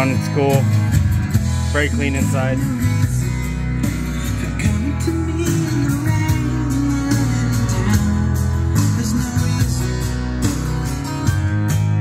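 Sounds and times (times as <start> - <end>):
music with bass and drum beat: 0.0 - 12.0.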